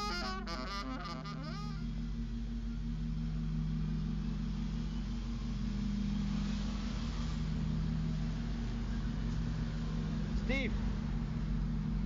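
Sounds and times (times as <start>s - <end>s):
city street traffic hum: 0.0s - 12.0s.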